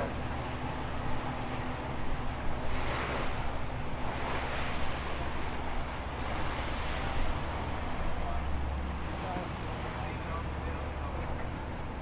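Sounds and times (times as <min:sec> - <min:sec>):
low engine rumble: 0:00.0 - 0:12.0
wind and sea rushing: 0:00.0 - 0:12.0.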